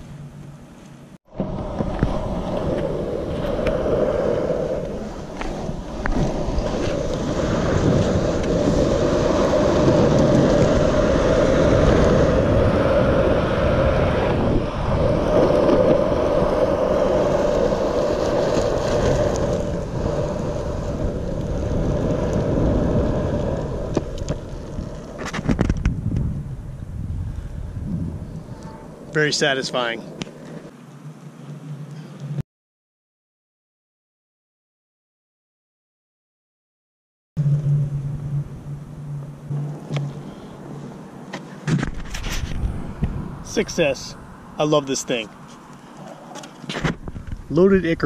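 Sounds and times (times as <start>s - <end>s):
skateboard wheels rolling on asphalt: 0.0s - 32.4s, 37.4s - 48.0s.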